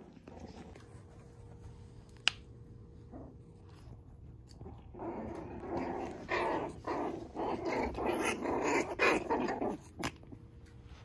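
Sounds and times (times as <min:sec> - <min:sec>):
puppy play-growling: 0:00.0 - 0:01.8, 0:02.8 - 0:10.7.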